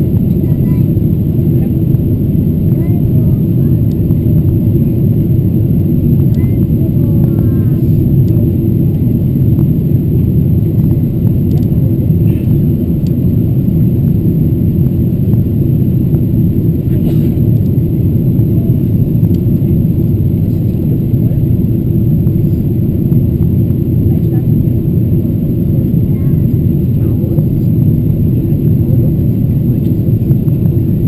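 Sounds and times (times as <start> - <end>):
airliner cabin rumble: 0.0 - 31.0.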